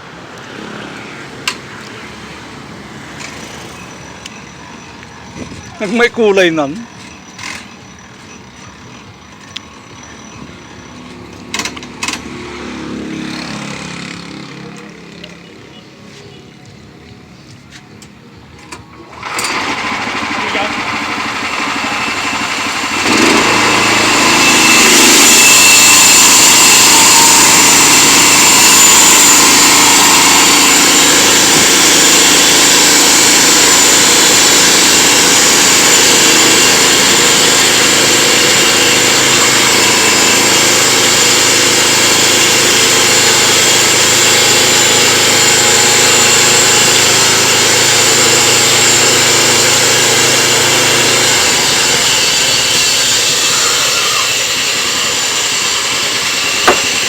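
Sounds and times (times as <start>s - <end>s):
sawmill engine running: 0.0s - 15.8s, 18.7s - 57.0s.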